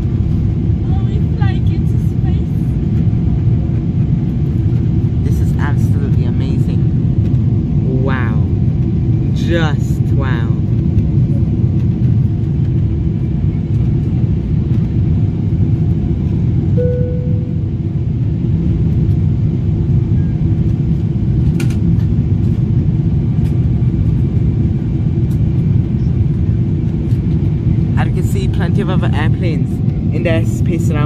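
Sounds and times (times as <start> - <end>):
jet engine roar in cabin: 0.0 - 31.0.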